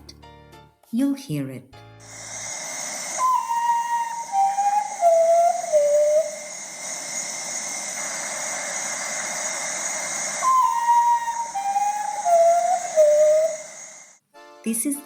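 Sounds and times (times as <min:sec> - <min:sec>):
bird whistled descending notes: 0:02.0 - 0:14.2
steady hiss: 0:02.0 - 0:14.2.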